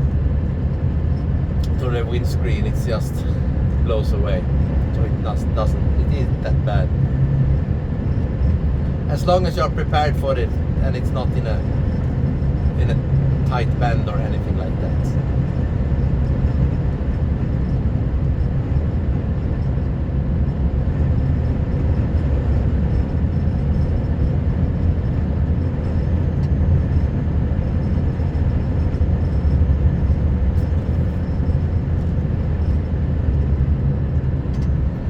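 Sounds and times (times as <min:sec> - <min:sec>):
road noise: 0:00.0 - 0:35.0
truck diesel engine droning: 0:00.0 - 0:35.0.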